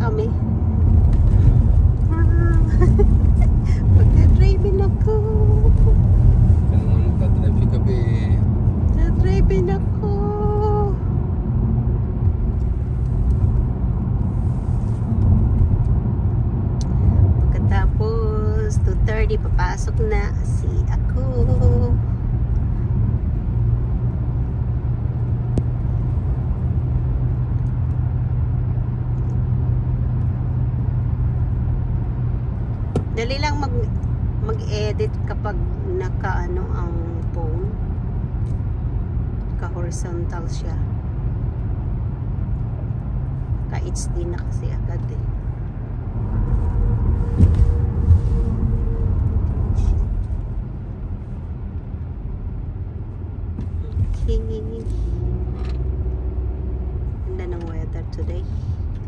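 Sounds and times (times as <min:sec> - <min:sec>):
car engine rumble: 0:00.0 - 0:59.0
tyres on the road: 0:00.0 - 0:59.0.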